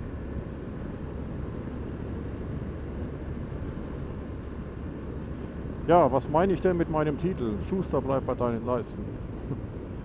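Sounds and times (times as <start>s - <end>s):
wind rumble: 0.0s - 10.0s.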